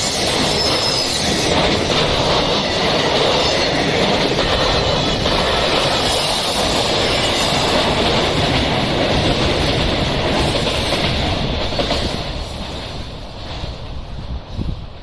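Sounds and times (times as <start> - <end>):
train wheels passing: 0.0 - 15.0.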